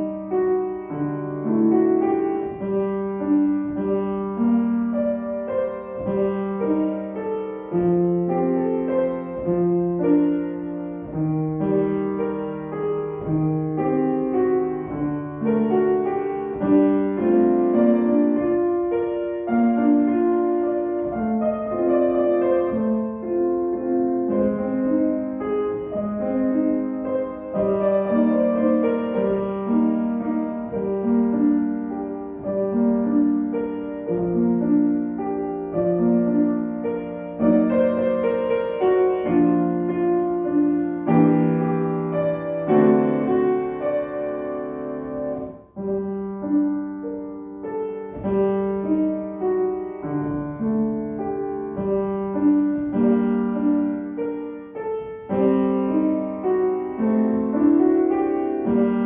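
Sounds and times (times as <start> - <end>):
slow solo piano melody: 0.0 - 59.0.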